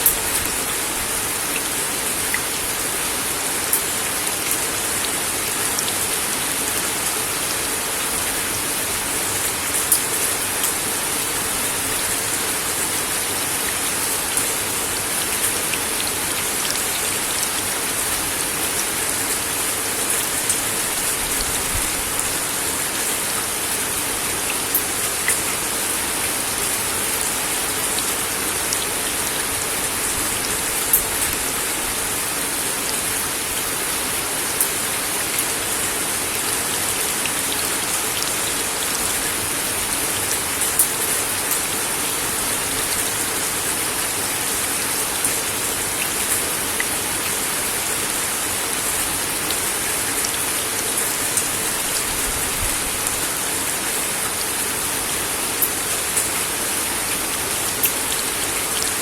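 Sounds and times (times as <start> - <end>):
rain on a wooden deck: 0.0 - 59.0.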